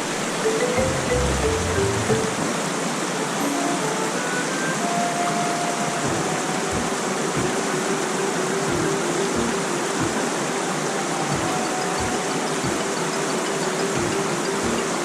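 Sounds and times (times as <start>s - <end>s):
mountain stream rushing: 0.0s - 15.0s
soft background music: 0.0s - 15.0s.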